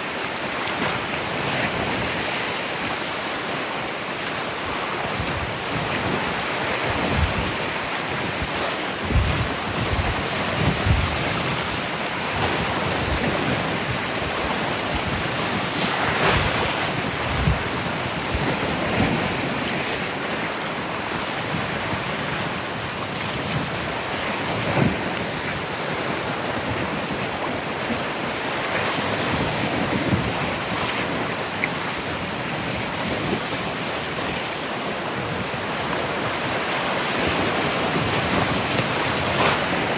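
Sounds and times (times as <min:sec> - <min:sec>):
surf washing onto beach: 0:00.0 - 0:39.9
wind on microphone: 0:00.0 - 0:39.9.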